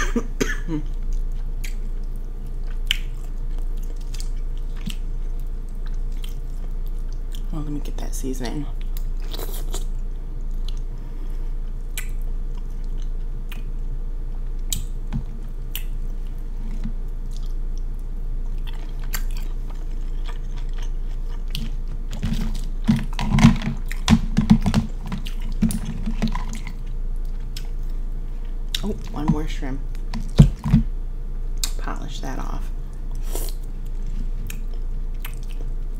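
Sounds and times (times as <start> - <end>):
steady electrical hum: 0.0 - 35.9
chewing and mouth smacking: 0.9 - 7.5, 8.8 - 10.9, 11.7 - 29.2, 32.9 - 35.9.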